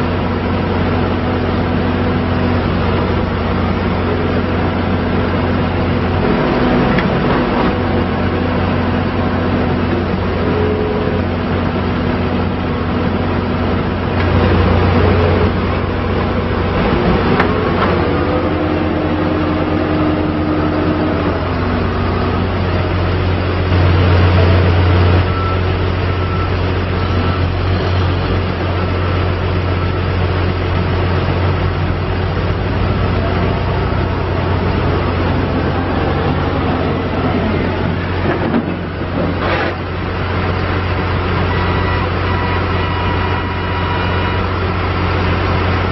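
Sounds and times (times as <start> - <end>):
diesel engine droning: 0.0 - 45.9.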